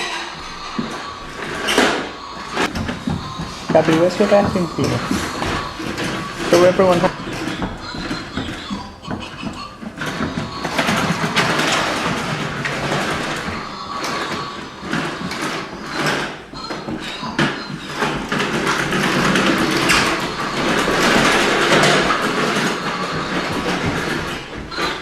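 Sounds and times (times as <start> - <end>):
vacuum cleaner rattling whirr: 0.0 - 25.0.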